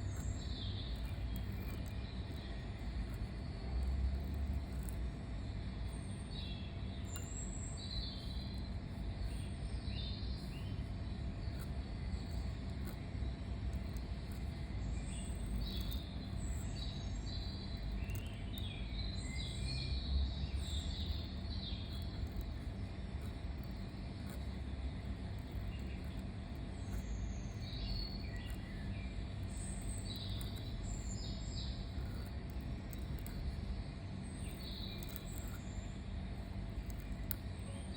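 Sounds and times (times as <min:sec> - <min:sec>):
low outdoor rumble: 0:00.0 - 0:37.9
songbirds chirping: 0:00.0 - 0:37.9.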